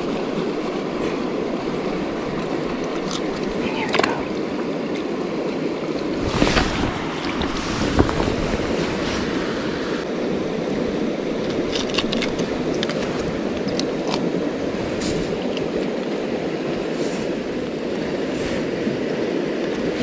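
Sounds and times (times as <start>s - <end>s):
river flowing over rocks: 0.0s - 20.0s.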